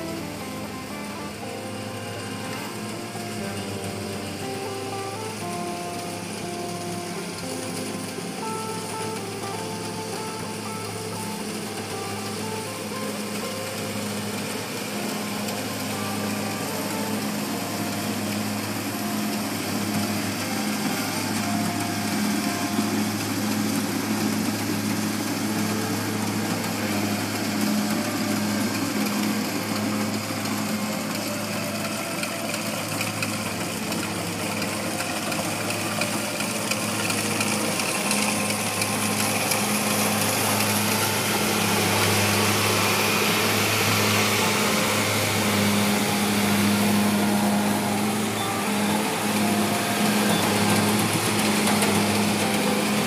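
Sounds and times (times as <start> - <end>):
combine harvester diesel engine running: 0.0 - 53.0.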